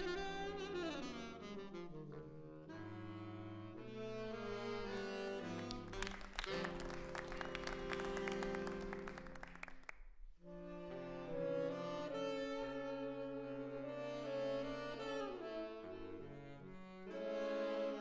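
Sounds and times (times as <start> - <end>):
saxophone quartet playing chords: 0.0 - 9.8, 10.4 - 18.0.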